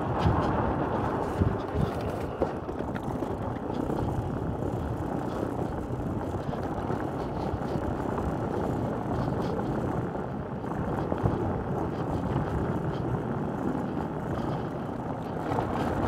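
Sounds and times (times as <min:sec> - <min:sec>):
cart wheels rattling on concrete: 0:00.0 - 0:16.0.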